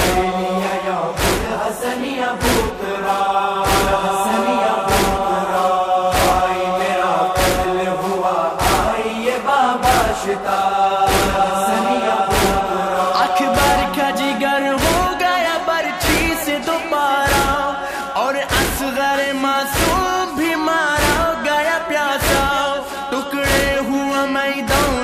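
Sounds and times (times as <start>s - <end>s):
person chanting lament: 0.0s - 25.0s
sharp rhythmic beats: 0.0s - 25.0s.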